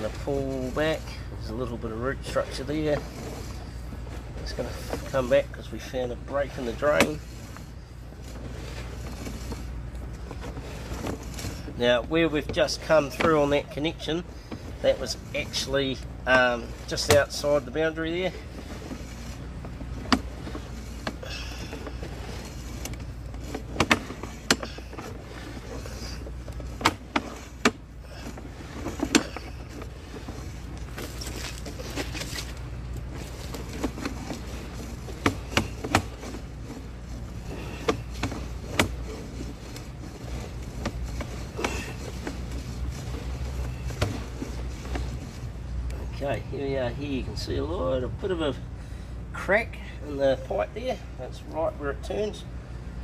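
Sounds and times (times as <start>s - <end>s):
machinery hum: 0.0s - 53.0s.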